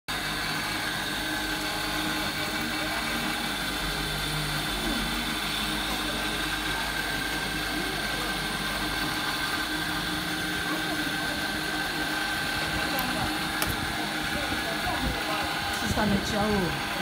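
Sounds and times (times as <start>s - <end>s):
industrial sewing machines whirring: 0.1s - 17.0s.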